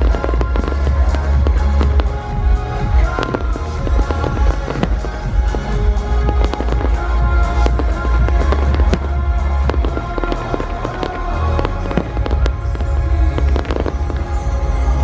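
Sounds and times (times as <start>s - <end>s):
fireworks bangs and crackles: 0.0s - 15.0s
loud music: 0.0s - 15.0s.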